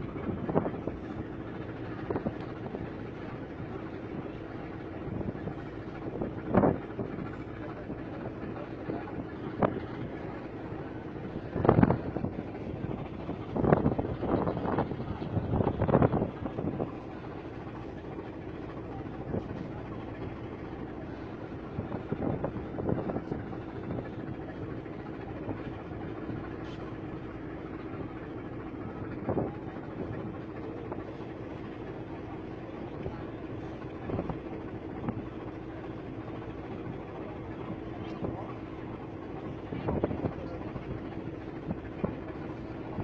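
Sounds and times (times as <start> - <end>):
ship engine droning: 0.0 - 43.0
wind gusts: 0.0 - 43.0.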